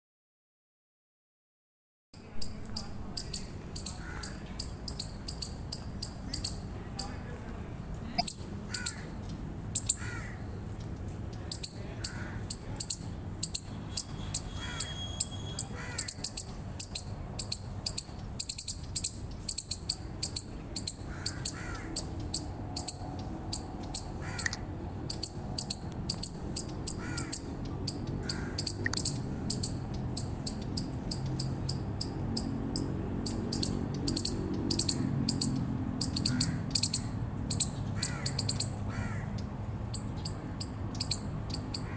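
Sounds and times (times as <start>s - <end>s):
chipmunk chip call: 2.2s - 7.2s, 8.1s - 10.4s, 11.4s - 39.2s, 39.9s - 41.9s.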